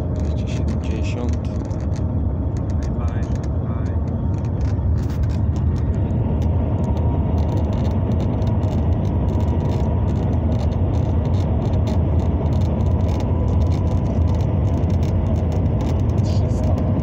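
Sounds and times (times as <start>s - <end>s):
train cabin low rumble: 0.0s - 8.7s, 12.0s - 17.0s.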